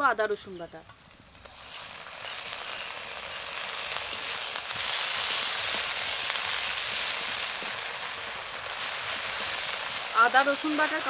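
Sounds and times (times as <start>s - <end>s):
small crackles: 0.8s - 11.0s
paste sizzling in hot oil: 0.9s - 11.0s.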